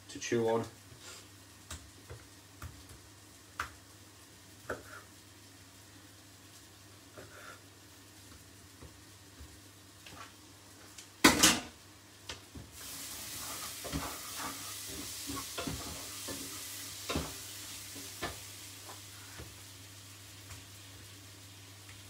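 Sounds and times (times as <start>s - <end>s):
spice paste sizzling in a pot: 0.0s - 22.0s.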